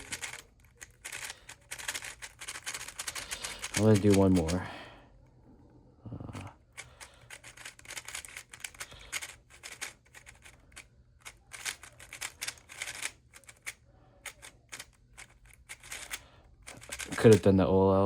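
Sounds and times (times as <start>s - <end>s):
puzzle cube turning clicks: 0.0s - 4.6s, 6.7s - 17.5s.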